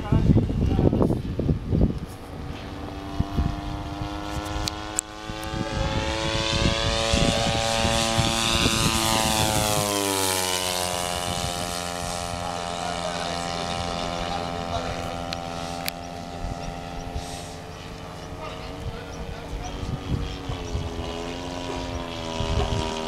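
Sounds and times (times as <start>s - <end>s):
model plane engine fly-past: 0.0s - 23.0s.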